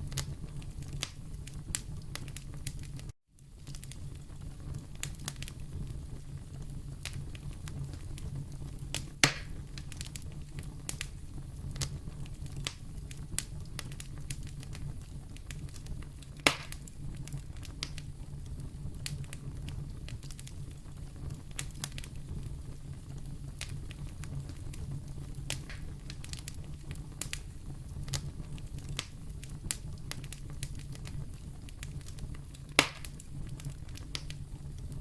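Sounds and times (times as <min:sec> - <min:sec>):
fire crackling: 0:00.0 - 0:35.0
fire low rumble: 0:00.0 - 0:35.0
loud fire pops: 0:00.0 - 0:35.0.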